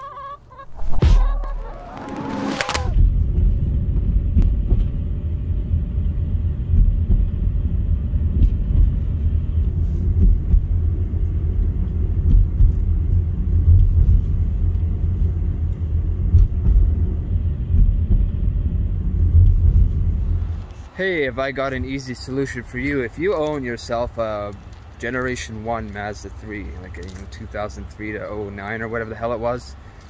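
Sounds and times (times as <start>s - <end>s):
low road rumble in car cabin: 2.9s - 29.6s.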